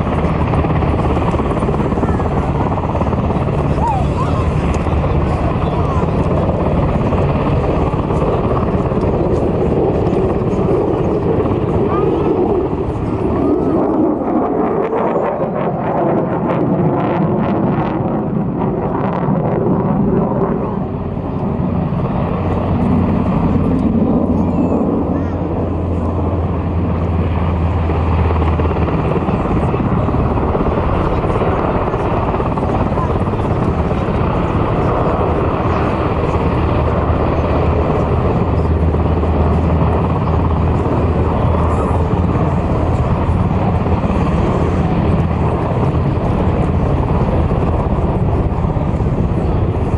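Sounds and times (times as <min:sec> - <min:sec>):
helicopter engines and rotor roar: 0:00.0 - 0:49.9.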